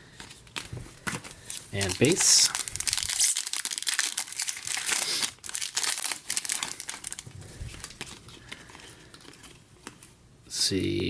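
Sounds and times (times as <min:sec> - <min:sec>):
trading cards crinkling and rustling: 0:00.1 - 0:10.2.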